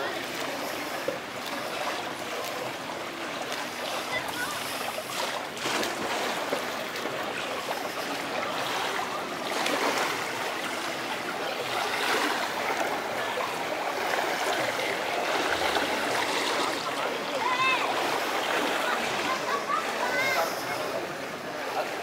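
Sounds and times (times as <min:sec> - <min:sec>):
pool water splashing: 0:00.0 - 0:22.0.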